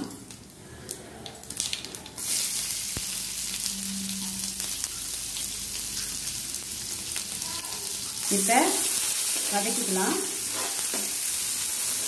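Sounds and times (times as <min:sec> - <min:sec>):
onion sizzling in hot oil: 0:01.5 - 0:12.0.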